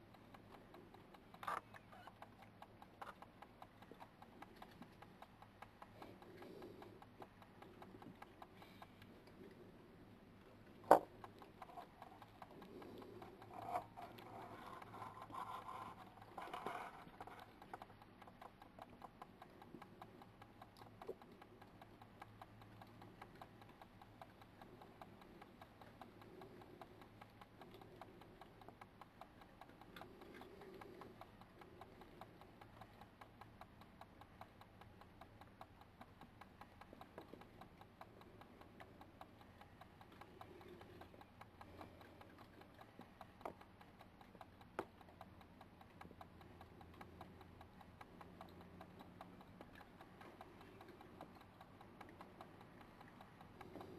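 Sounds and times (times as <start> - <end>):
animals crunching and rustling: 0.0 - 53.9
steady fast ticking: 0.0 - 53.9.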